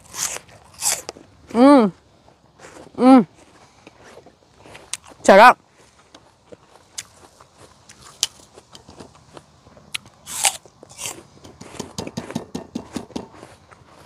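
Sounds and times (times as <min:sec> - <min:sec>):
crunchy apple chewing: 0:00.0 - 0:14.0.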